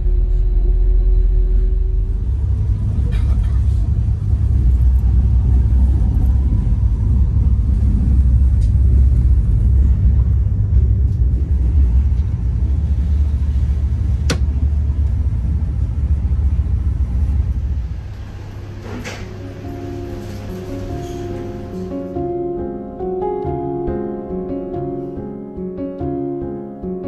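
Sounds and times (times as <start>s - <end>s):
vehicle rumble: 0.0s - 22.6s.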